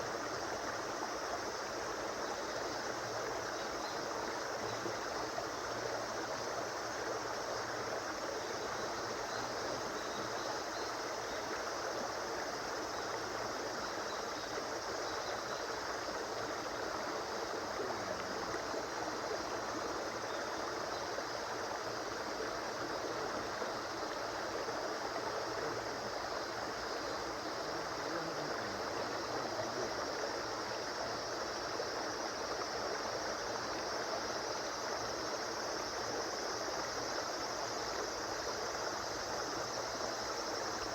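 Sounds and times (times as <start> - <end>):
river stream flowing: 0.0 - 40.9.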